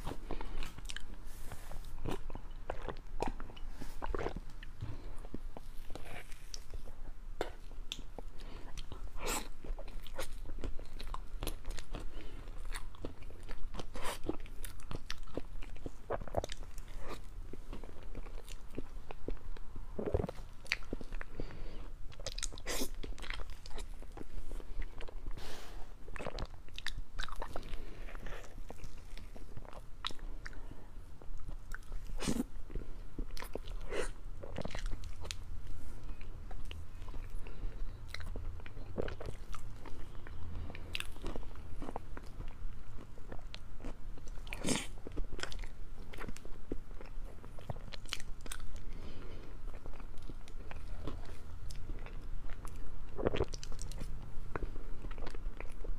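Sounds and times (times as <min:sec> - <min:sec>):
person chewing: 0:00.0 - 0:55.9.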